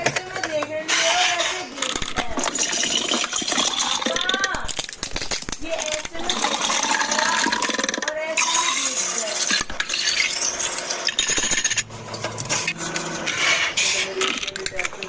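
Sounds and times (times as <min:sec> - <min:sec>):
jars and containers clattering: 0:00.0 - 0:15.0.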